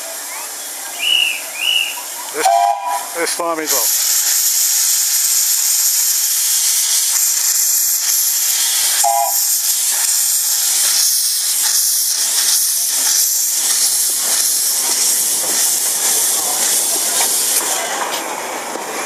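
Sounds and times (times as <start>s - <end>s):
steam hissing: 0.0s - 19.0s
steam locomotive puffs: 1.0s - 19.0s.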